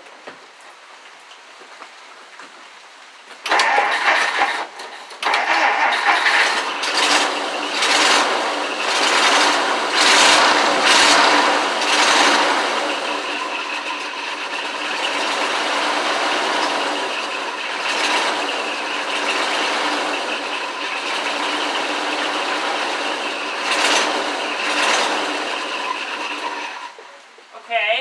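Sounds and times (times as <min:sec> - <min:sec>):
starter cranking engine: 0:03.4 - 0:27.0
engine running unevenly: 0:03.4 - 0:27.3.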